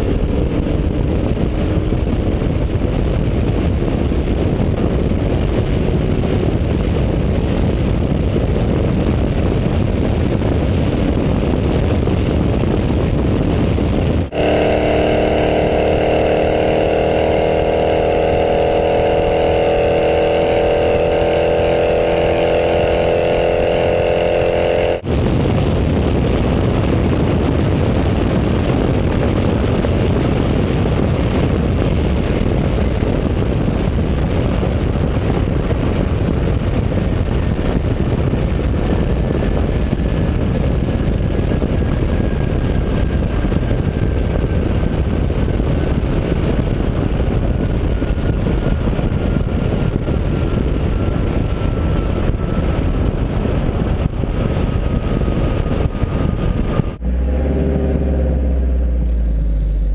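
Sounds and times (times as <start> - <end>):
car engine at high revs: 0.0 - 59.9
wind buffeting microphone: 0.0 - 59.9.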